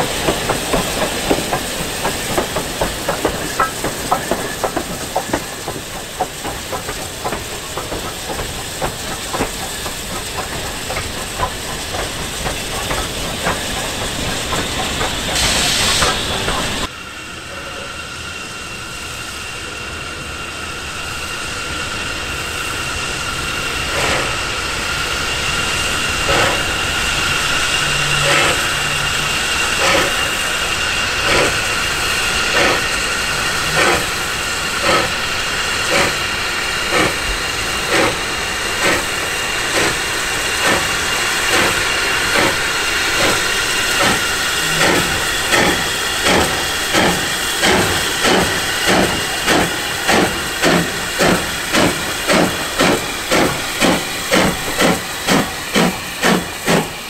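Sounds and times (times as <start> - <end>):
steam hissing: 0.0 - 57.0
steam locomotive exhaust chuffs: 0.0 - 57.0.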